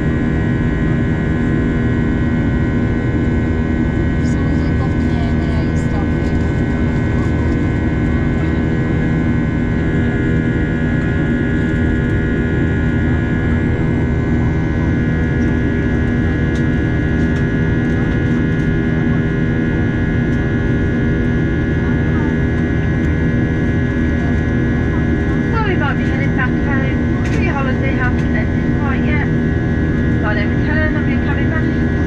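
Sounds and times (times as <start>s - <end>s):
airliner cabin engine drone: 0.0s - 32.0s.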